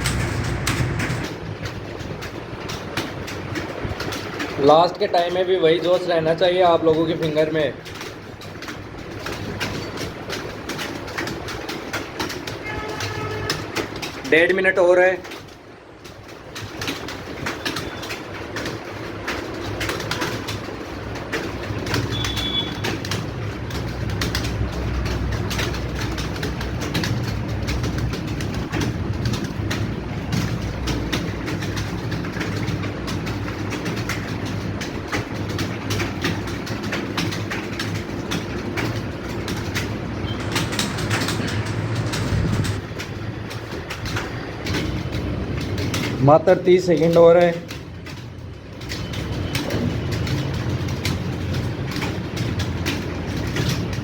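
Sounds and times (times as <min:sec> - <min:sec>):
keyboards clattering: 0:00.0 - 0:54.0.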